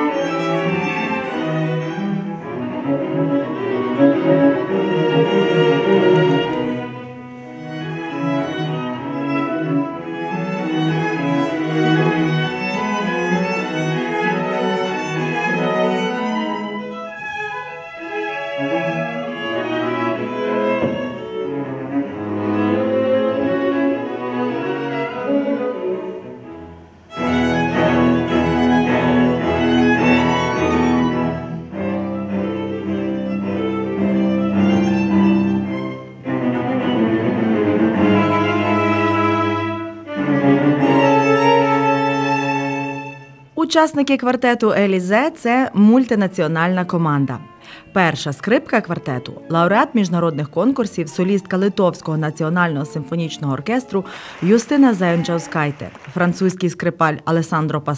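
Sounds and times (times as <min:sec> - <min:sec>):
string quartet playing classical: 0:00.0 - 0:57.9.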